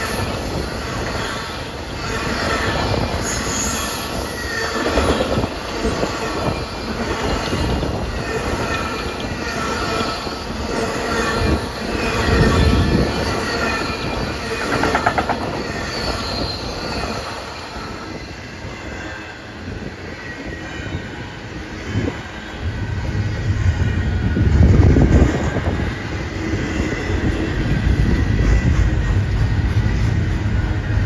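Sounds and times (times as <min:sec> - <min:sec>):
train wheels rumbling: 0:00.0 - 0:31.0
train wheels squealing on rails: 0:00.0 - 0:31.0.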